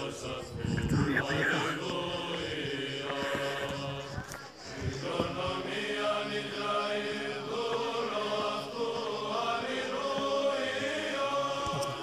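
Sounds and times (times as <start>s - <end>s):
choral chant music: 0.0s - 12.0s.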